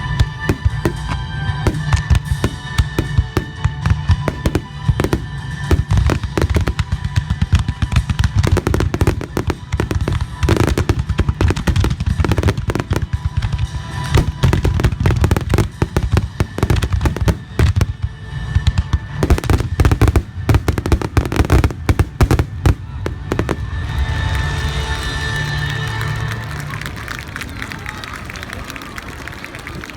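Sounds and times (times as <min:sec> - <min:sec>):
fireworks shells bursting: 0:00.0 - 0:25.4.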